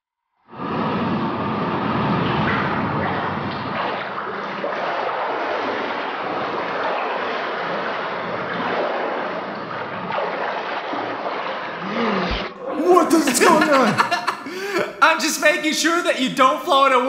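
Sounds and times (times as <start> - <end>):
pool water splashing: 2.0 - 17.0.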